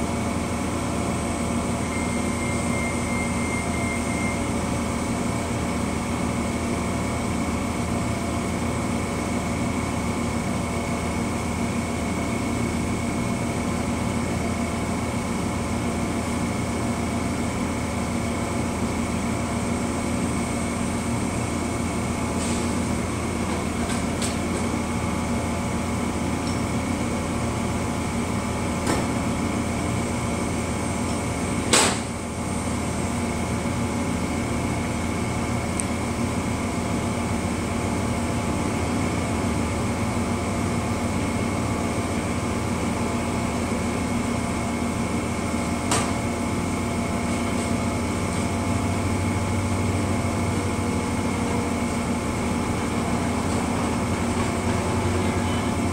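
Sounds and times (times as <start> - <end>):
idling train hum: 0.0 - 55.9
air-conditioning running: 4.2 - 55.9.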